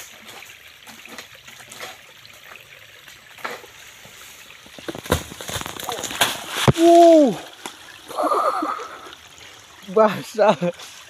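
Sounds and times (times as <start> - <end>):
faint trickling water: 0.0 - 11.0.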